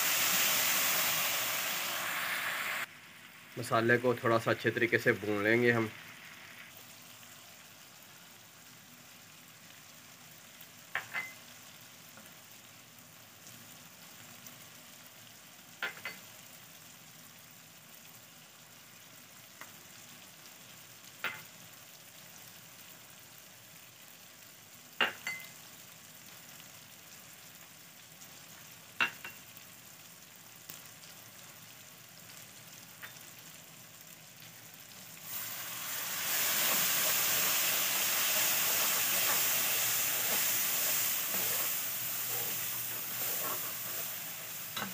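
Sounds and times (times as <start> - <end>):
food sizzling in oil: 0.0 - 44.9.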